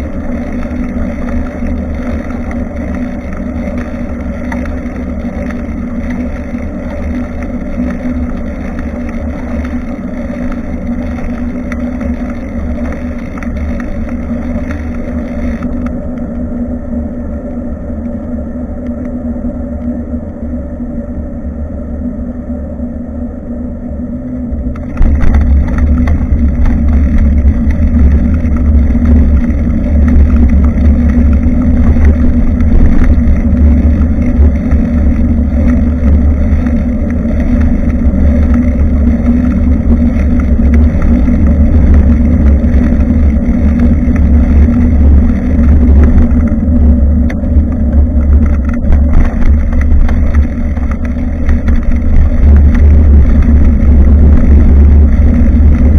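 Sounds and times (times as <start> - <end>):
bicycle riding noise: 0.0 - 22.2, 23.5 - 55.9
wind rumble: 0.0 - 55.9.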